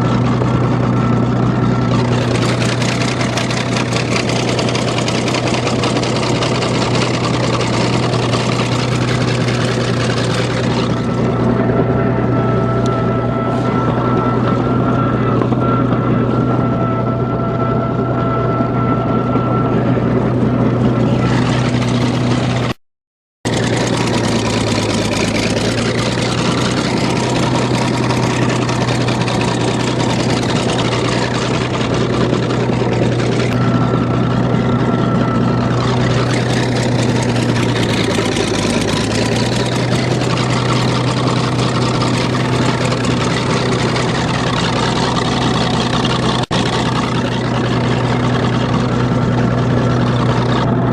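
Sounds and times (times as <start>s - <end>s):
bulldozer diesel engine running: 0.0s - 22.8s, 23.4s - 50.9s.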